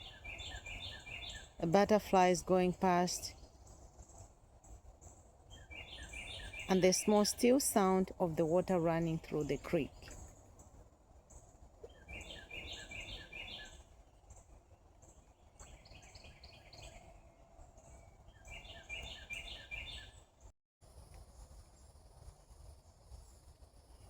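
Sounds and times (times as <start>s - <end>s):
songbird chirping: 0.0s - 4.8s, 5.5s - 20.5s.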